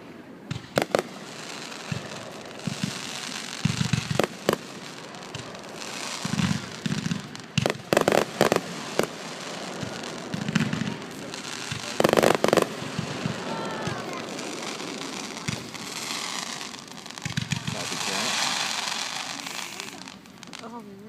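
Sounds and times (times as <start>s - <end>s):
fireworks bangs and booms: 0.0s - 21.0s
fireworks crackling: 0.0s - 21.0s.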